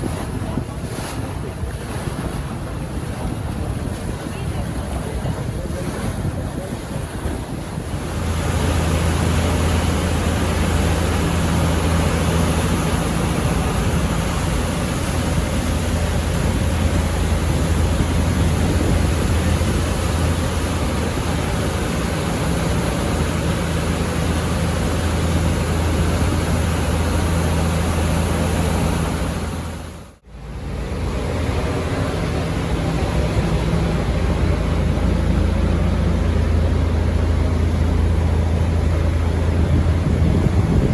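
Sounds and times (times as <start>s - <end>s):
boat engine drone: 0.0s - 40.9s
moving water: 0.0s - 40.9s
wind on microphone: 0.0s - 40.9s.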